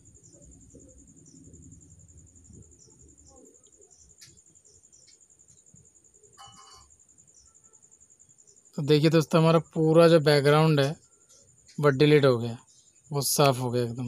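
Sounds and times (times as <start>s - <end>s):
cricket chirping: 0.0s - 14.0s
low room noise: 0.0s - 14.0s.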